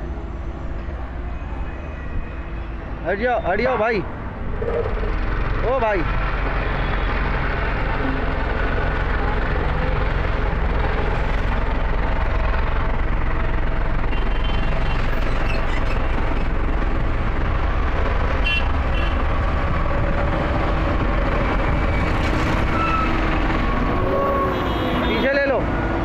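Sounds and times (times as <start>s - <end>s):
road roller diesel engine: 0.0s - 26.0s.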